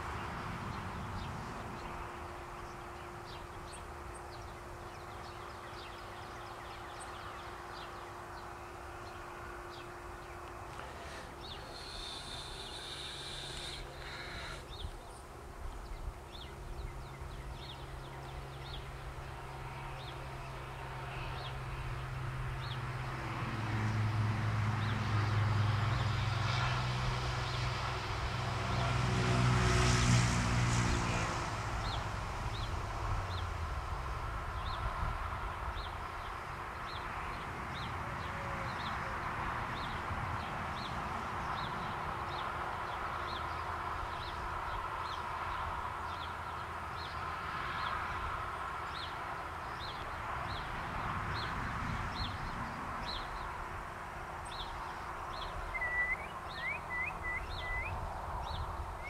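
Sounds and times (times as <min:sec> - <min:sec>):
engine passing by: 0:00.0 - 0:59.0.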